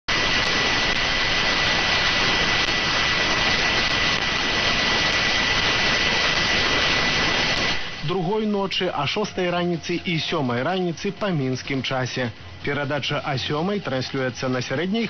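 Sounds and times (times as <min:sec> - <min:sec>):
radio static hiss: 0:00.1 - 0:15.0.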